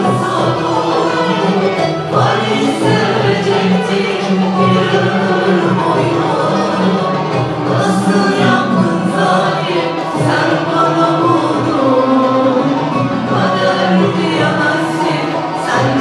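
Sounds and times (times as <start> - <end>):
choir singing with instruments: 0.0 - 16.0.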